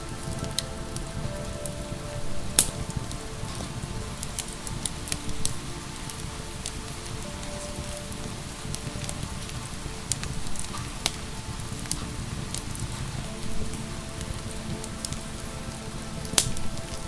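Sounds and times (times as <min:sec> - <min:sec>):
rain hiss: 0:00.0 - 0:17.0
soft sustained music tones: 0:00.0 - 0:17.0
wood fire pops and crackles: 0:00.0 - 0:17.0.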